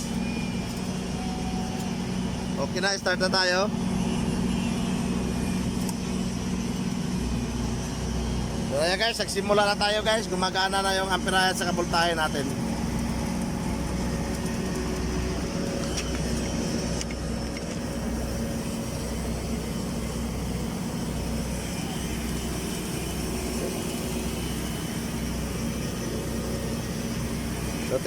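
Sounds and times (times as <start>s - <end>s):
welding machine hum: 0.0s - 28.0s.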